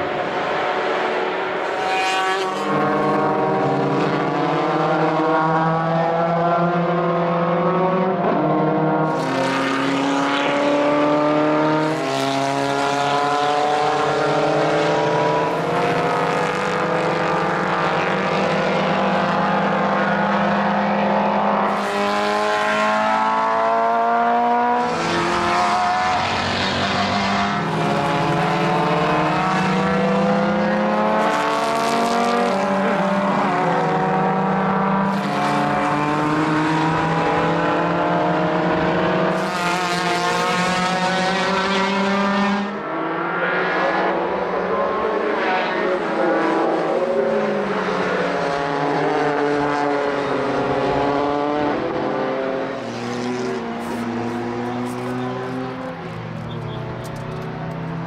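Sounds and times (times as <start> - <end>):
racing car engines passing: 0.0 - 58.0.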